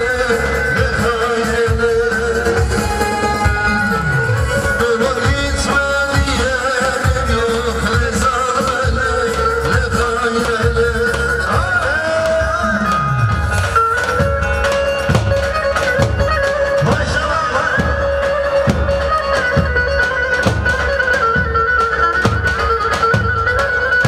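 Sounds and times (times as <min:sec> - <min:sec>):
reedy wind instrument melody: 0:00.0 - 0:24.0.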